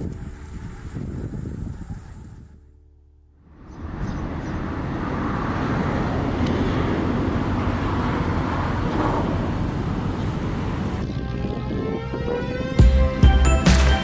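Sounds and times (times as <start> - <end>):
engine and machinery rumble: 0.0 - 13.2.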